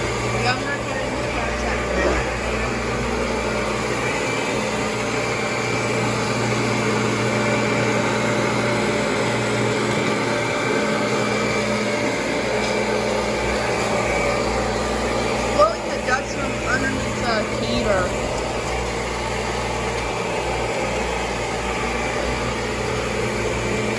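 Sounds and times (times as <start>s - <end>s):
upright vacuum cleaner running: 0.0s - 23.9s.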